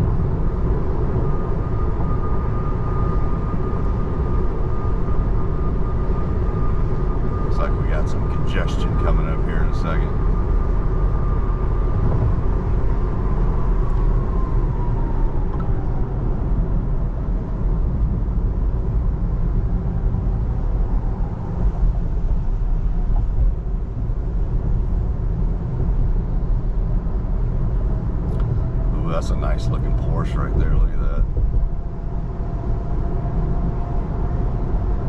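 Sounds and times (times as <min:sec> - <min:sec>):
road and tyre noise in car: 0:00.0 - 0:35.0.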